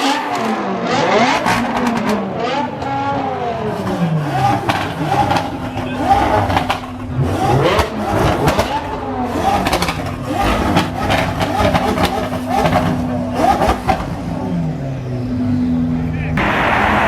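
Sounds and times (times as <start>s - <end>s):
car engine humming: 0.0s - 17.0s
people chattering: 0.9s - 11.1s, 13.2s - 17.0s.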